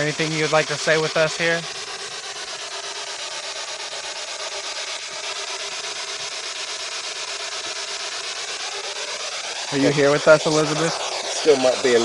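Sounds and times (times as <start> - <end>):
chopped radio static hiss: 0.0 - 12.0
faint wavering tones: 1.8 - 12.0.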